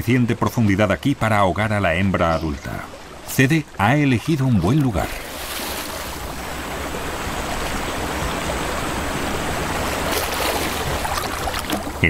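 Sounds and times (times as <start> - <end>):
river water churning and splashing: 0.0 - 12.0.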